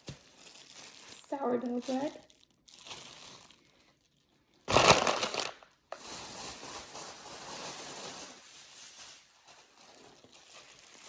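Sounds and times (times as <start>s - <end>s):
bread packaging crinkling: 0.0s - 11.0s.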